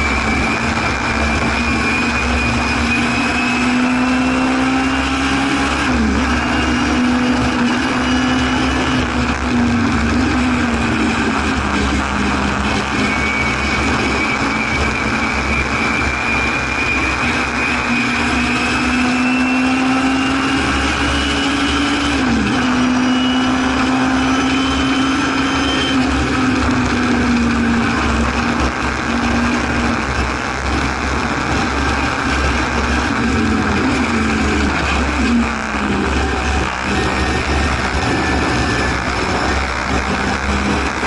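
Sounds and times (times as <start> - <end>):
race car engine revving: 0.0 - 41.0
wind and road noise: 0.0 - 41.0.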